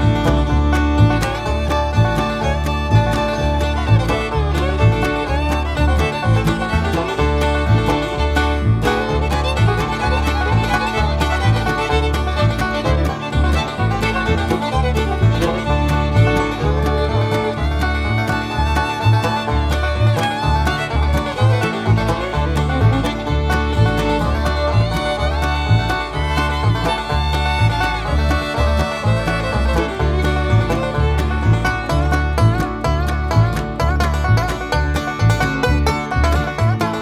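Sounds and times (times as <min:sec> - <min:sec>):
banjo: 0:00.0 - 0:37.0
fiddle: 0:00.0 - 0:37.0
guitar: 0:00.0 - 0:37.0.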